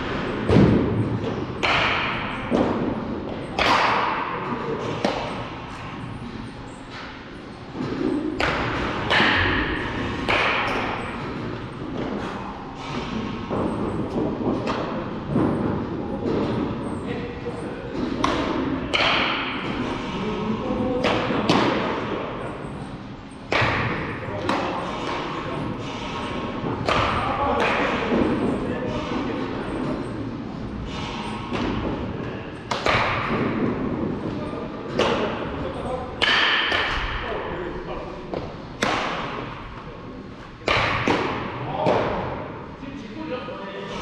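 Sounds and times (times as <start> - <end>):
sharp knocks of baseballs: 0.0 - 6.0, 6.9 - 17.0, 17.9 - 20.2, 21.0 - 22.5, 23.5 - 30.2, 30.8 - 37.5, 38.3 - 42.7.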